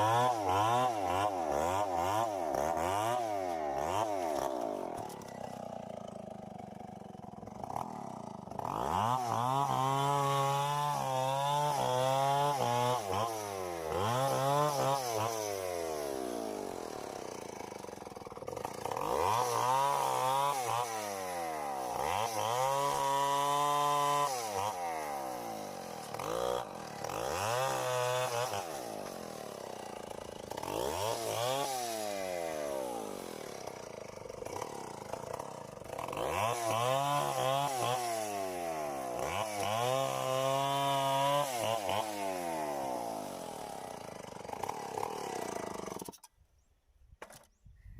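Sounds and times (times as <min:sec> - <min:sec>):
chainsaw revving cutting wood: 0:00.0 - 0:46.4.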